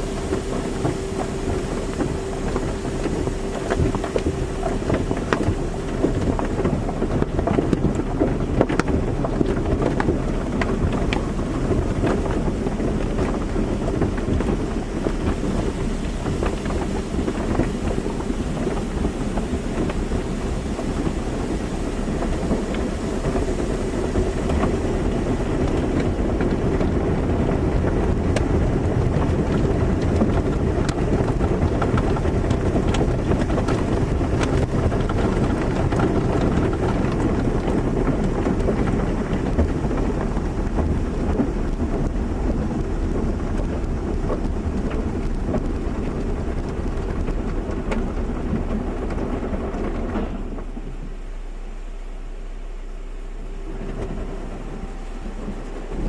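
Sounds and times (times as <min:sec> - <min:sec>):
machine rumble: 0:00.0 - 0:56.0
spraying water: 0:00.0 - 0:56.0.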